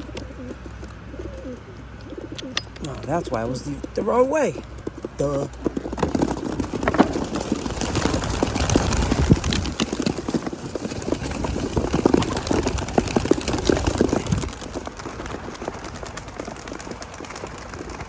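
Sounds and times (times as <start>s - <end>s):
pigeons flapping wings: 2.2s - 18.0s.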